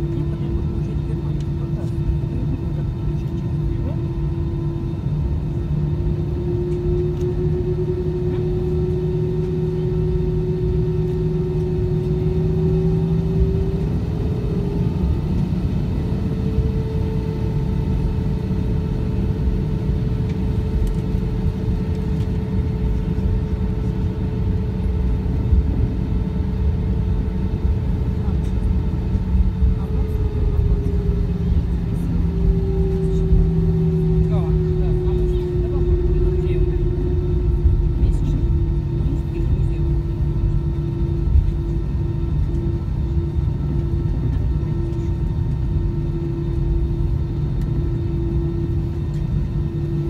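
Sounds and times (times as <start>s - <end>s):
airplane cabin rumble: 0.0s - 50.0s
jet engines humming: 0.0s - 50.0s.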